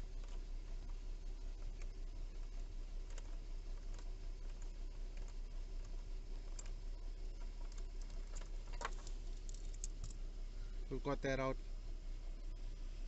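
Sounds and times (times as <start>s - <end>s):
car engine idling hum: 0.0s - 13.0s.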